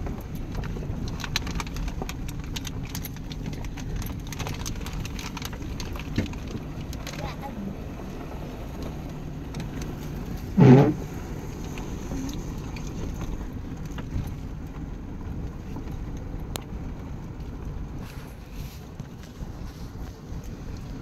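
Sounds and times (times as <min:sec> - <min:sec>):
truck engine and tyres rumbling: 0:00.0 - 0:21.0.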